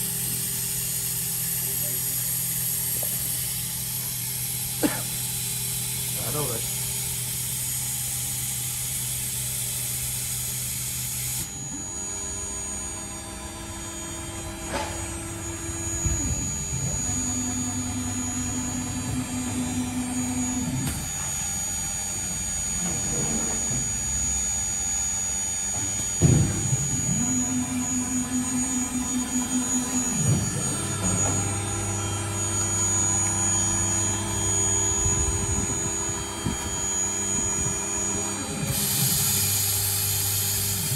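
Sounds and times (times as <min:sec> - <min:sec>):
drilling machine motors running: 0:00.0 - 0:40.9.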